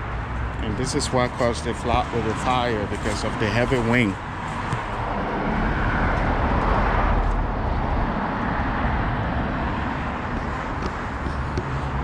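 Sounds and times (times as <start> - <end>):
low traffic rumble: 0.0 - 12.0
vehicle passing: 0.0 - 12.0.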